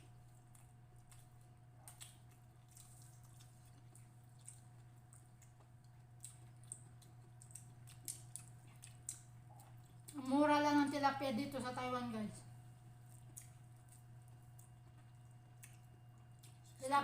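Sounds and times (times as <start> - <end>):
steady low hum: 0.0 - 17.0
people chewing: 0.2 - 11.0, 12.7 - 17.0.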